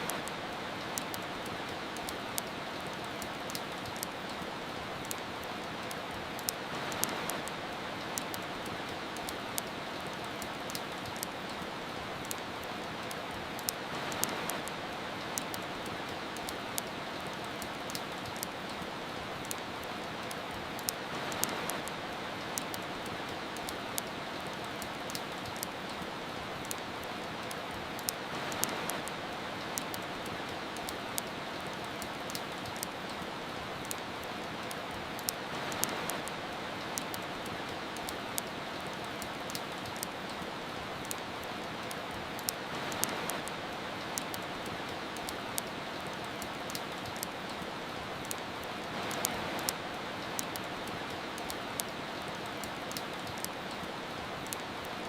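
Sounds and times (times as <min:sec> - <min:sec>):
rain hiss: 0:00.0 - 0:55.0
wood fire crackling: 0:00.0 - 0:55.0.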